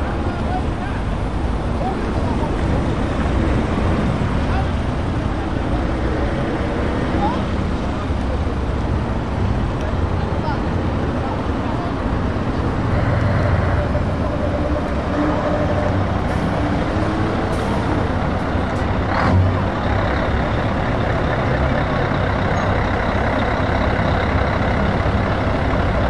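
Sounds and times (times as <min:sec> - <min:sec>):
truck diesel engines rumbling: 0:00.0 - 0:26.0.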